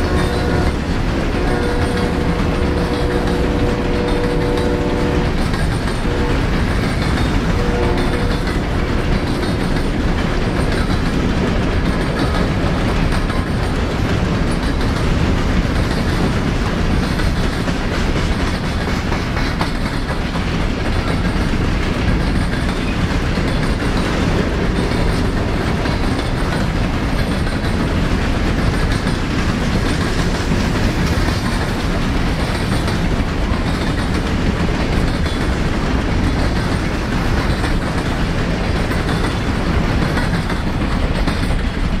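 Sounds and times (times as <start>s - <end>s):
train of hopper cars rolling: 0.0s - 42.0s.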